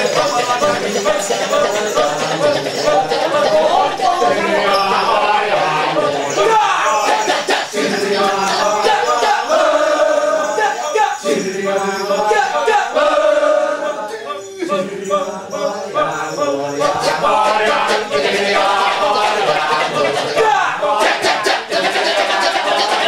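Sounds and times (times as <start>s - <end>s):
male chorus chanting: 0.0s - 23.0s.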